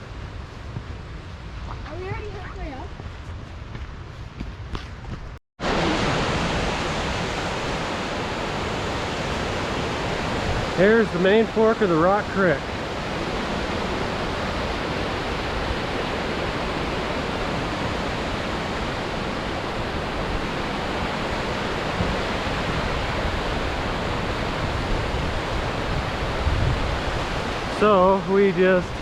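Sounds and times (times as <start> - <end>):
creek rushing: 5.6 - 29.0.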